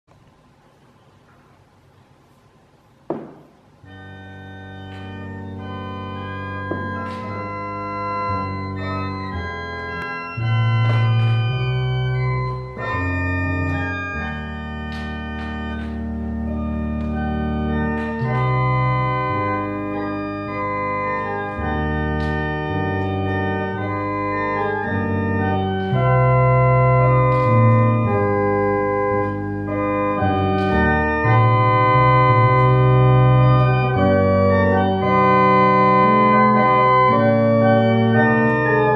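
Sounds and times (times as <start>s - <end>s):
church organ playing a hymn: 3.8s - 38.9s.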